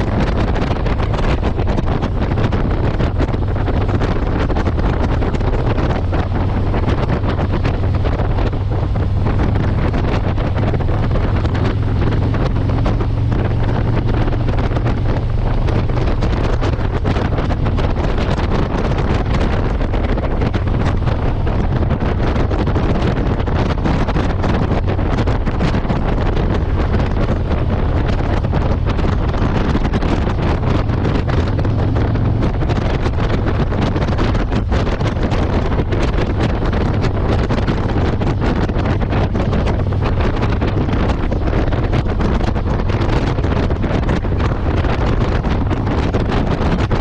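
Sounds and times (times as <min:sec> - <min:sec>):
motorcycle engine drone: 0:00.0 - 0:47.0
wind buffeting microphone: 0:00.0 - 0:47.0.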